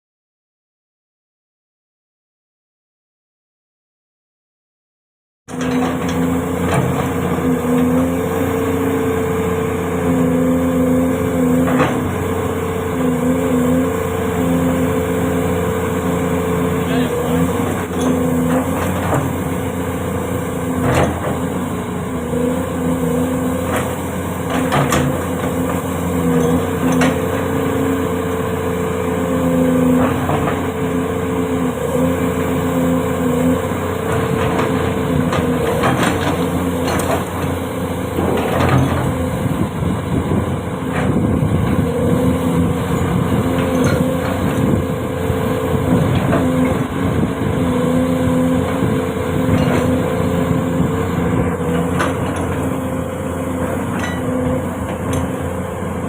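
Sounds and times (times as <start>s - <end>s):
excavator diesel engine droning: 5.5s - 56.0s.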